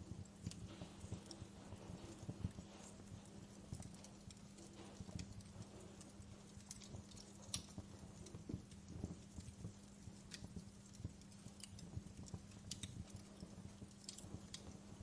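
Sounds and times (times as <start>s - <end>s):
faint low hum: 0.0s - 15.0s
wood fire crackling: 0.0s - 15.0s.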